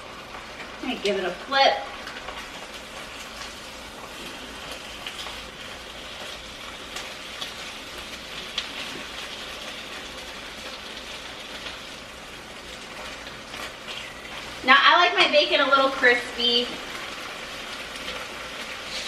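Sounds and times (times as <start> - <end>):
bacon sizzling in a frying pan: 0.0 - 19.0.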